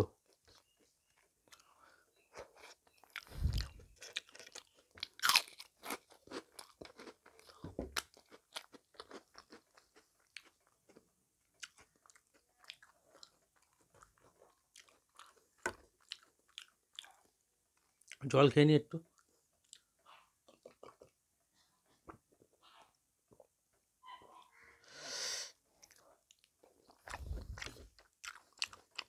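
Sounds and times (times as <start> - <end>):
person chewing food: 0.2 - 18.2, 19.1 - 23.6, 25.7 - 29.0.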